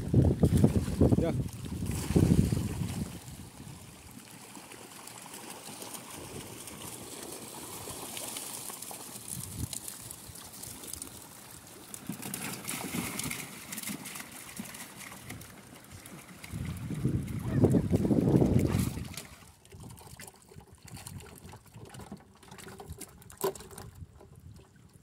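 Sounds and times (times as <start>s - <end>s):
fish splashing in shallow water: 0.0s - 25.0s.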